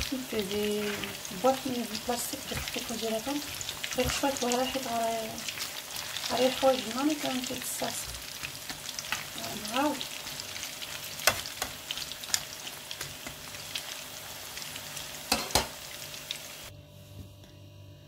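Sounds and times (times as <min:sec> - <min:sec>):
food deep-frying in oil: 0:00.0 - 0:16.7.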